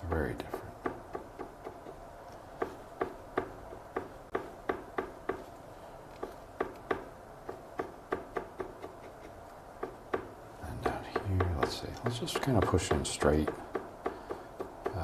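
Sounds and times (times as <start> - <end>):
brush tapping on canvas: 0.0 - 2.0, 2.6 - 5.5, 6.1 - 15.0.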